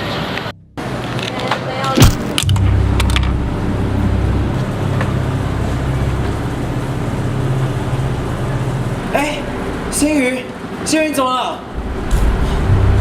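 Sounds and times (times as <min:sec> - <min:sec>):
low rumble: 0:00.3 - 0:01.3, 0:02.0 - 0:10.9, 0:11.6 - 0:13.0.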